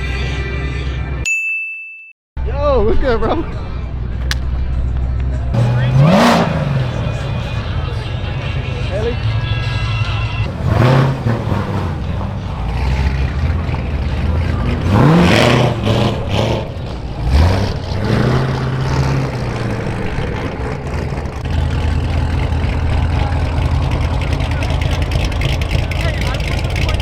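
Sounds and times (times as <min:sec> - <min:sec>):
car engine revving: 0:03.8 - 0:27.0.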